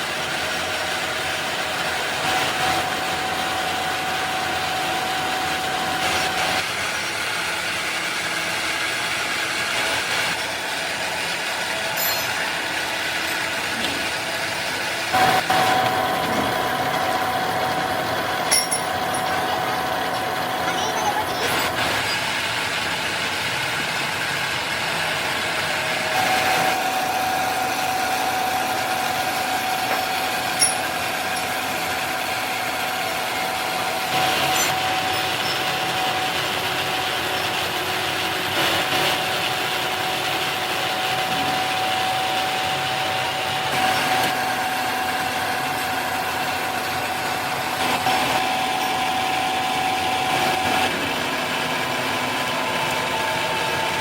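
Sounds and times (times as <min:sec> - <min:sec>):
factory machinery whining: 0:00.0 - 0:54.0.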